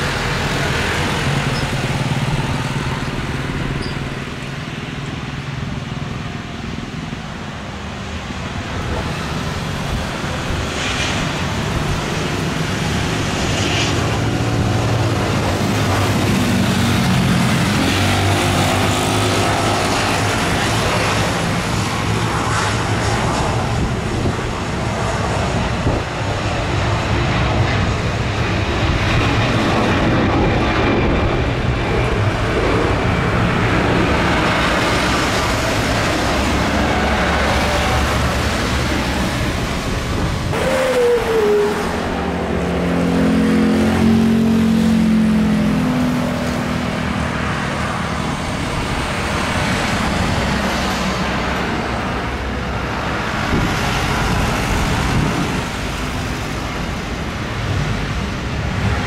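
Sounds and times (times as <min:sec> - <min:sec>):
falling engine whine: 0:00.0 - 0:59.0
jet airliner engines taking off: 0:00.0 - 0:59.0.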